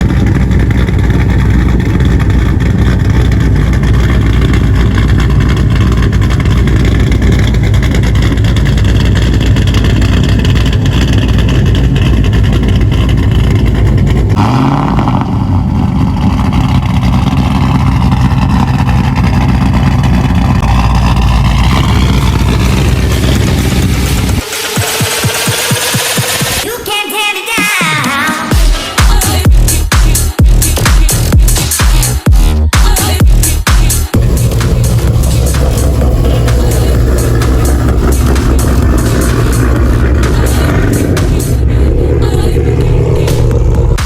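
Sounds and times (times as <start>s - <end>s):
car engine running: 0.0s - 26.7s, 27.8s - 44.0s.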